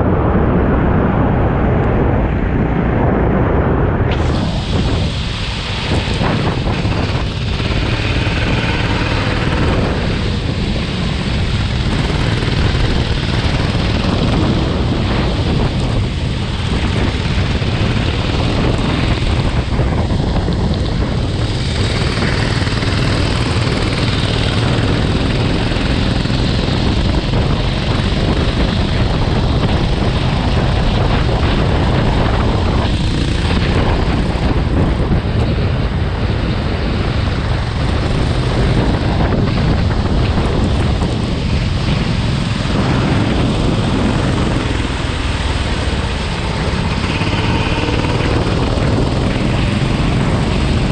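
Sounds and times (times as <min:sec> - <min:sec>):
wind on microphone: 0:00.0 - 0:50.9
kart engine running: 0:04.1 - 0:50.9.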